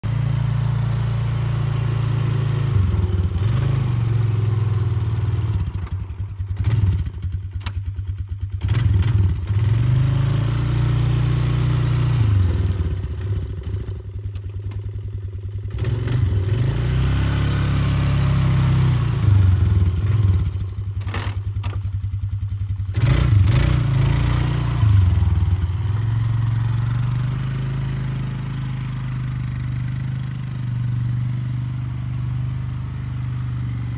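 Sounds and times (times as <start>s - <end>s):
atv engine revving: 0.0s - 33.9s.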